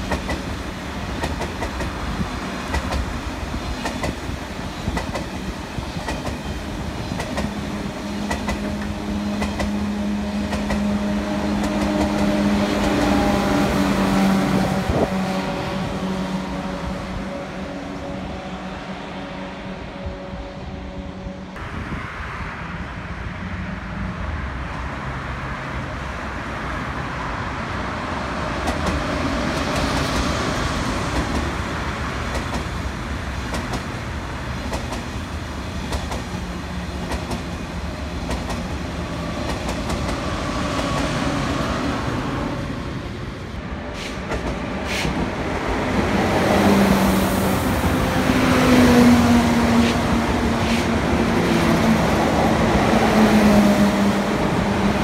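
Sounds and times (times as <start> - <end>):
train wheel rumble: 0.0 - 21.7, 26.6 - 55.0
electric train humming past: 0.0 - 55.0.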